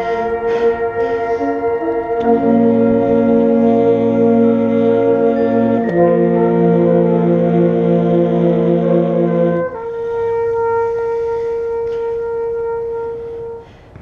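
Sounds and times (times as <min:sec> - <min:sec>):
marching band sustained chord: 0:00.0 - 0:14.0
single held wind note: 0:00.0 - 0:14.0.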